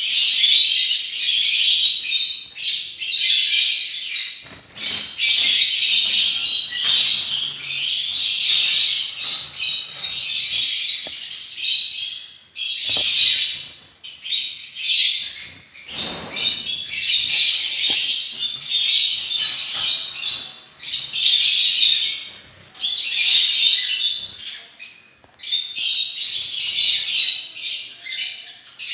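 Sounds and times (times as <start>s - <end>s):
finches chirping: 0.0s - 28.9s.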